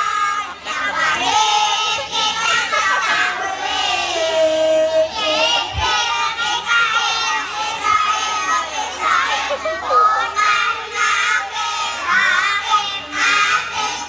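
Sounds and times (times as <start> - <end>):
children singing in unison: 0.0 - 14.0.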